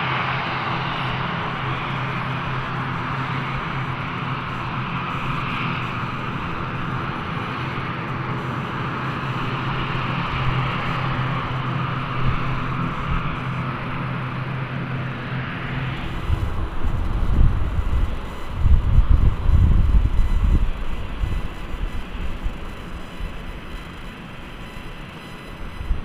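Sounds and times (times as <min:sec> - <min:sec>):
low propeller hum: 0:00.0 - 0:26.0.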